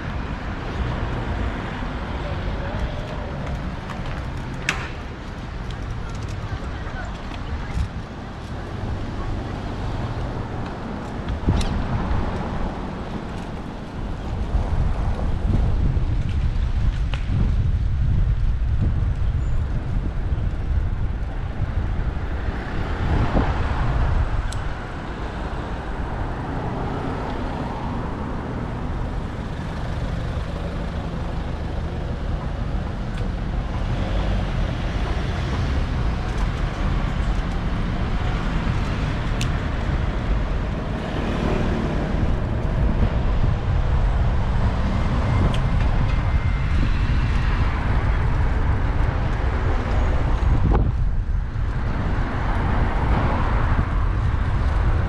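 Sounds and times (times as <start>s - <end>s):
road traffic passing: 0.0s - 55.0s
wind rumble on microphone: 0.0s - 55.0s.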